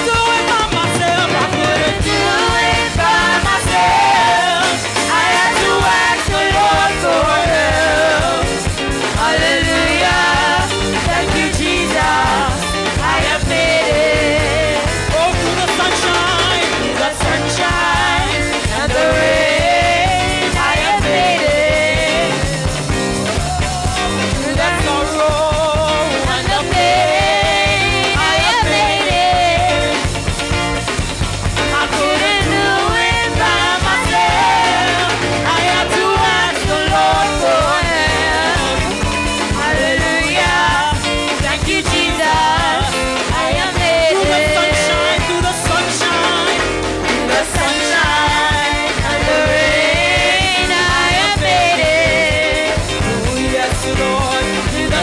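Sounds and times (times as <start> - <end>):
voices singing a melody: 0.0 - 30.6, 31.5 - 55.0
drum kit steady beat: 0.0 - 55.0
electric guitar: 0.0 - 55.0.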